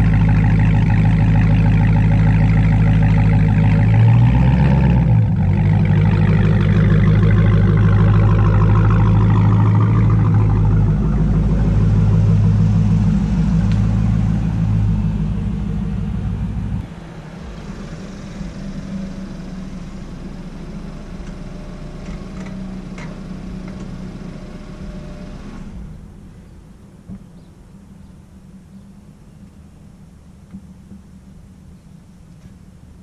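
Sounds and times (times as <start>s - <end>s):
car engine rumbling: 0.0s - 33.0s
quiet car engine running: 0.0s - 33.0s.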